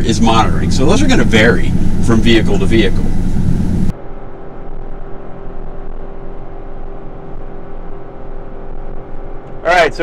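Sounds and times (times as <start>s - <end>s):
faint steady hum: 0.0s - 10.0s
road and engine rumble in van: 0.0s - 10.0s.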